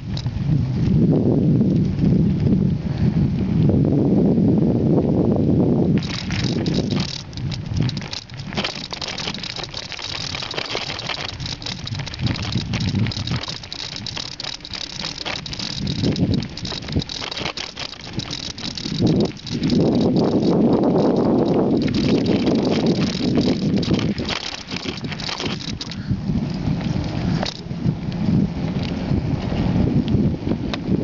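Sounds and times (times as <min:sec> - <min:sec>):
bicycle rattling over rough track: 0:00.0 - 0:04.3, 0:05.0 - 0:31.0
wind rumble on microphone: 0:00.0 - 0:31.0.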